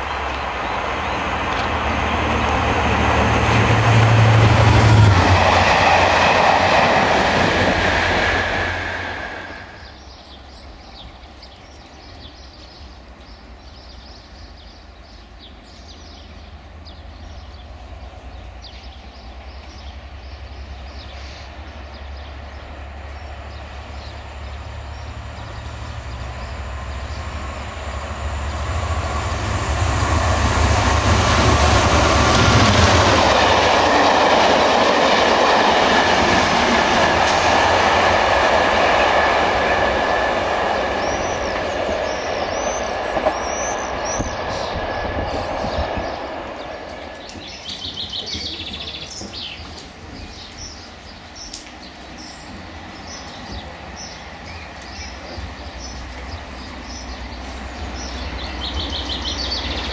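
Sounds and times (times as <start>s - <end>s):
diesel locomotive passing: 0.0s - 59.9s
distant train approaching: 0.0s - 59.9s.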